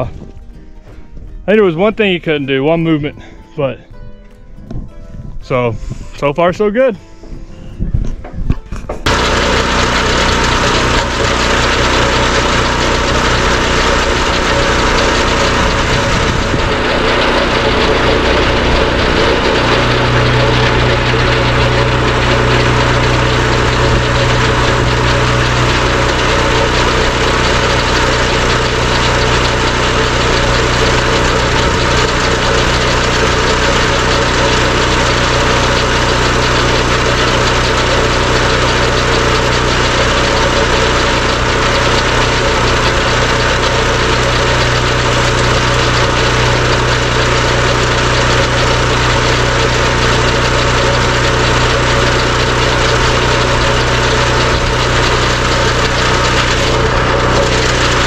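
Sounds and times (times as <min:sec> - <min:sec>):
engine idling: 0:09.0 - 0:58.0.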